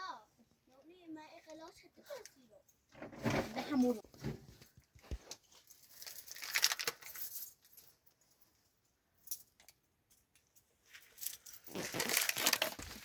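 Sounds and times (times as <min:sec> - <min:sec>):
rustling of handled objects: 0:00.4 - 0:13.0.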